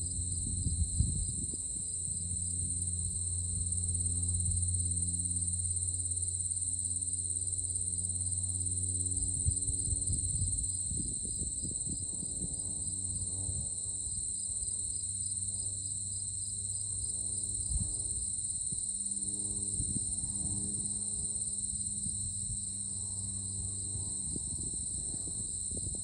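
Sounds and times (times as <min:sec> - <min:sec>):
insect chorus trilling: 0:00.0 - 0:26.0.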